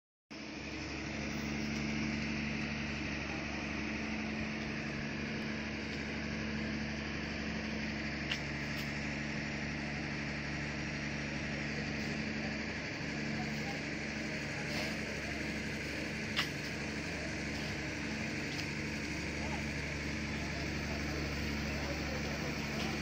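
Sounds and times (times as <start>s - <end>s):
engine running with low hum: 0.3s - 23.0s.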